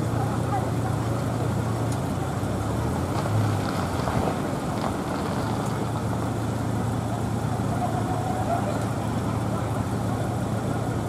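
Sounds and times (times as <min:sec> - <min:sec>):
idling engine hum: 0:00.0 - 0:11.0
street background noise: 0:00.0 - 0:11.0.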